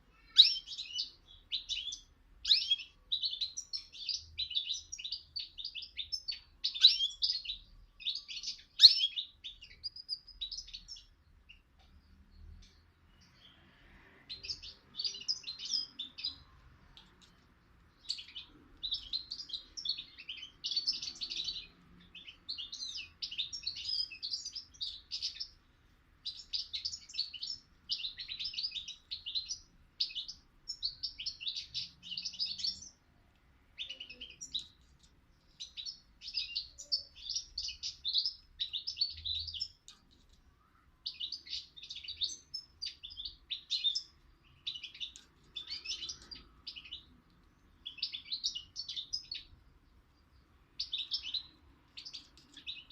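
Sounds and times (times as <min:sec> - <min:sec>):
songbird twittering: 0:00.1 - 0:34.8, 0:35.4 - 0:52.9.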